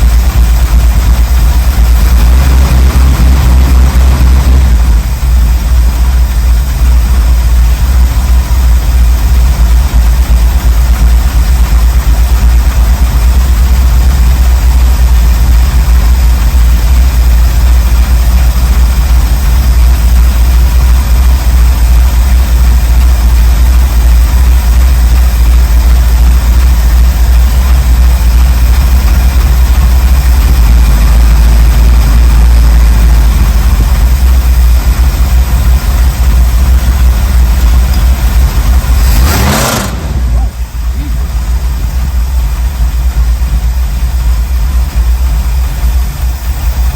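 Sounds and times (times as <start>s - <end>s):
v eight engine idling: 0.0s - 46.9s.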